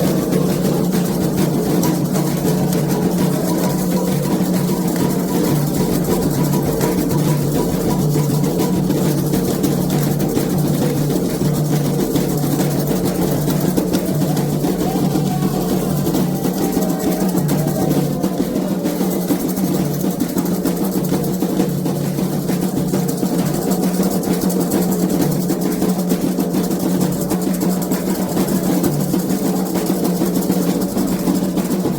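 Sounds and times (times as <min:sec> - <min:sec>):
hand drums playing rapidly: 0:00.0 - 0:31.9.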